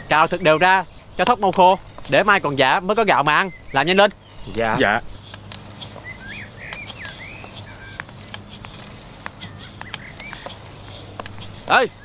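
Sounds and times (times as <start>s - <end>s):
rakes scraping grain on ground: 0.0s - 12.0s
small birds chirping: 0.0s - 12.0s.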